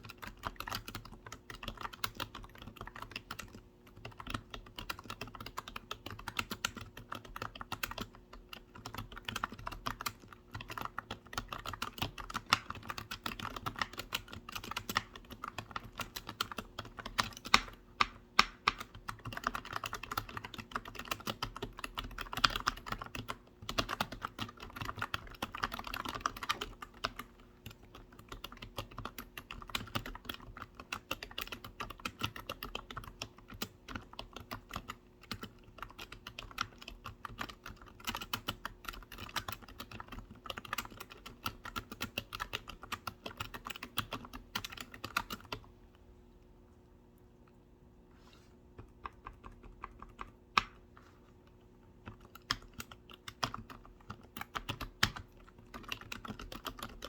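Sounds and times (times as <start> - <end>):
typing on computer keyboard: 0.0 - 45.7, 48.8 - 50.9, 52.0 - 57.0.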